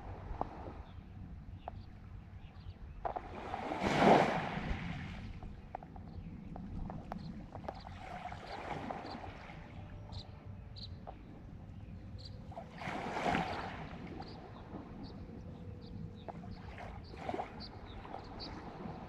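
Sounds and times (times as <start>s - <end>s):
small waves lapping on shore: 3.0s - 19.0s.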